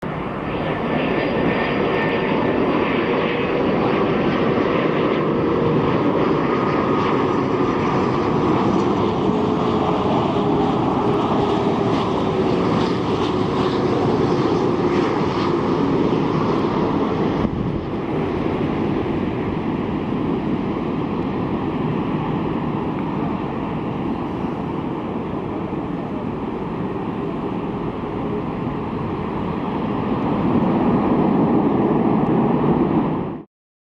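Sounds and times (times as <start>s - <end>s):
jet engines of passing airliner: 0.0s - 33.5s.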